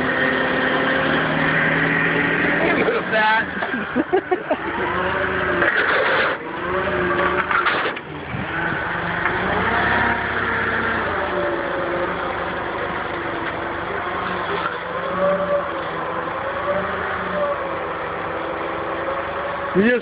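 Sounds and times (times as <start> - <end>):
vehicle engine working: 0.0 - 20.0.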